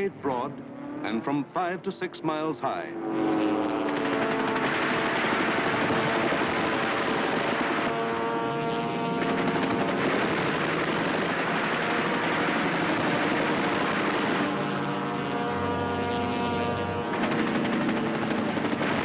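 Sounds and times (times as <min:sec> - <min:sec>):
warplane engines droning: 0:00.0 - 0:19.0.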